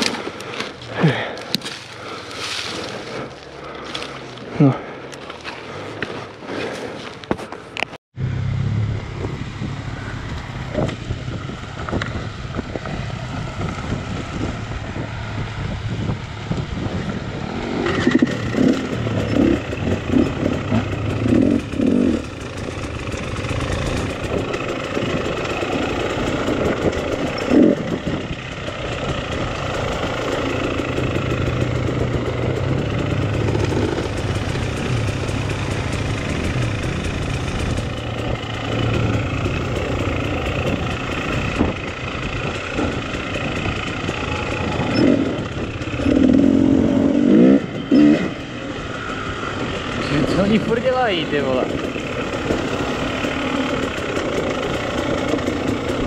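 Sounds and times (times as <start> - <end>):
dirt bike engine revving: 8.2 - 56.0.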